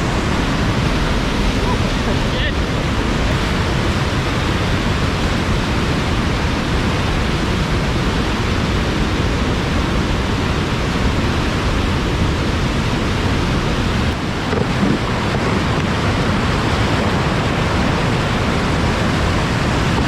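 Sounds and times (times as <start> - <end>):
rushing whitewater: 0.0 - 20.0.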